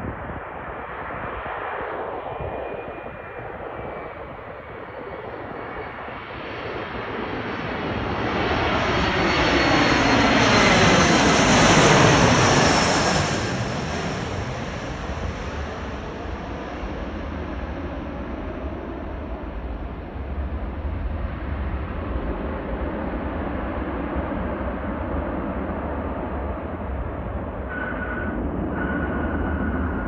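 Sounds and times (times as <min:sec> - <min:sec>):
jet engines passing by: 0:00.0 - 0:30.0.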